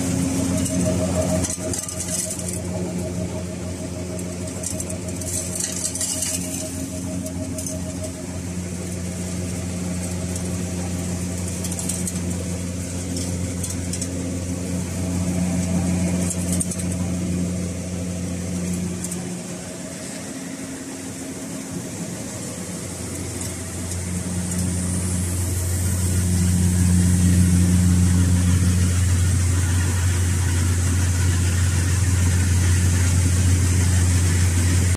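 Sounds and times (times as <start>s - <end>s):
seed-cleaning machine humming: 0.0s - 34.9s.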